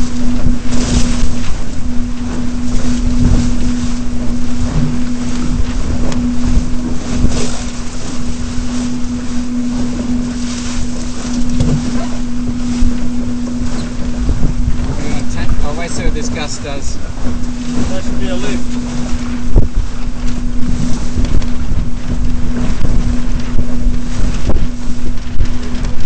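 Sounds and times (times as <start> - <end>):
low hum: 0.0 - 26.0
water rushing along hull: 0.0 - 26.0
wind buffeting microphone: 0.0 - 26.0.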